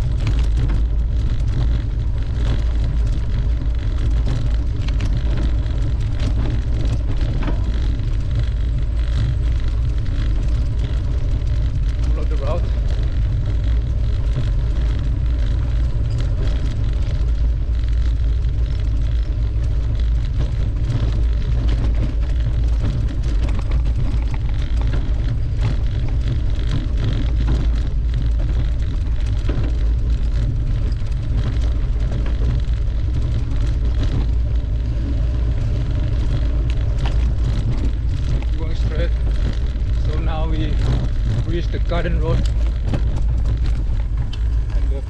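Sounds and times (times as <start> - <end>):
bike rattles and knocks: 0.0 - 45.0
bike tyre noise: 0.0 - 45.0
wind on microphone: 0.0 - 45.0.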